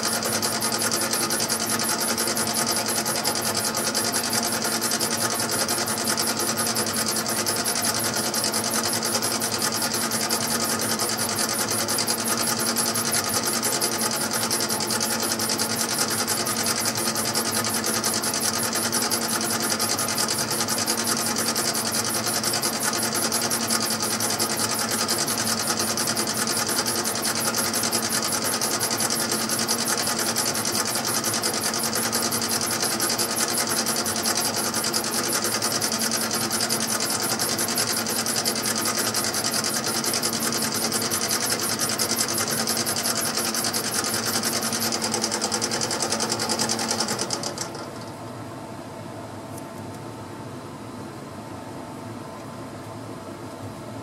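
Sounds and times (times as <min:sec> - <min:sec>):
lathe motor whine and buzz: 0:00.0 - 0:48.0.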